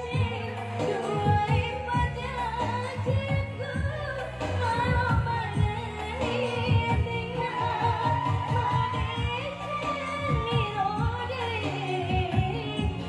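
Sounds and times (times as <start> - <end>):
woman singing into a microphone: 0.0 - 13.0.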